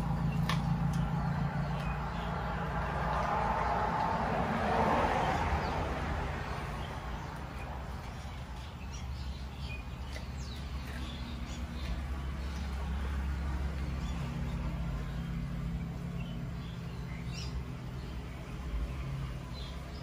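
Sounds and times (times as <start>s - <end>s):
passing vehicle noise: 0.0s - 20.0s.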